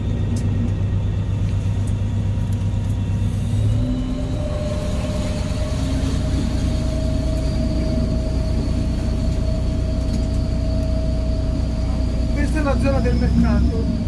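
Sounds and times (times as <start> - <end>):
boat engine running: 0.0 - 14.0
faint steady whine: 0.0 - 14.0.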